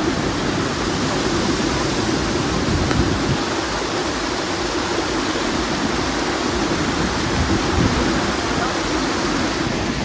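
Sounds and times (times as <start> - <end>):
waterfall rushing over rock: 0.0 - 10.0.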